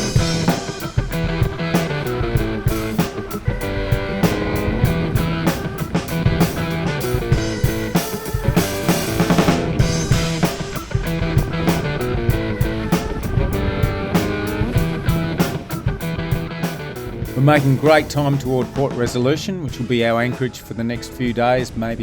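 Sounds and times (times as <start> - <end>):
rock music with guitar and drums: 0.0 - 20.7.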